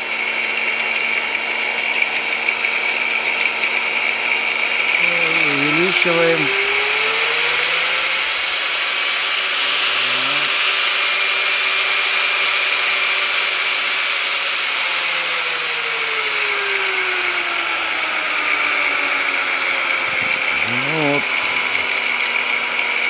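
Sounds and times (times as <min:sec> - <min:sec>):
angle grinder whine: 0:00.0 - 0:23.0.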